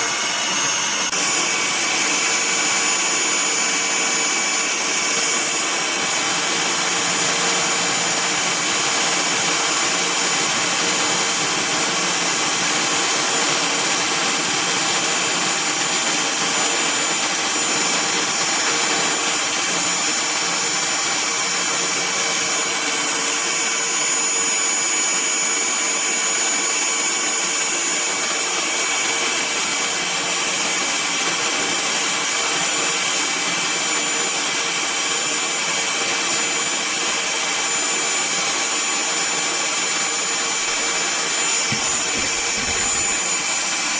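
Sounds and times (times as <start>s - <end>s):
small motor whining: 0.0s - 43.9s.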